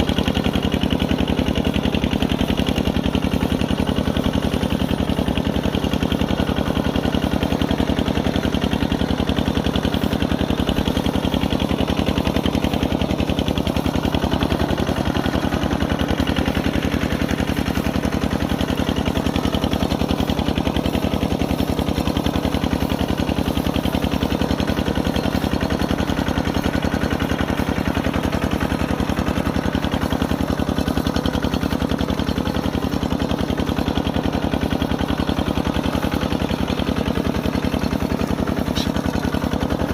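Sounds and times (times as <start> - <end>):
single-cylinder diesel engine popping: 0.0 - 39.9.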